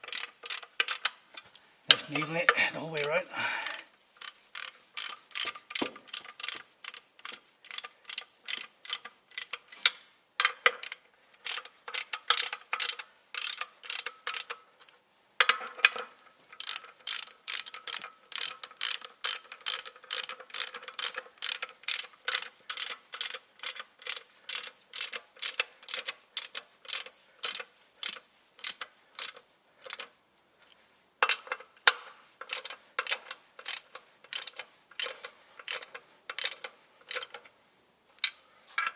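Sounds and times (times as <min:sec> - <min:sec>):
ratchet wrench clicking: 0:00.0 - 0:01.2, 0:03.6 - 0:14.6, 0:15.4 - 0:30.1, 0:31.2 - 0:37.5.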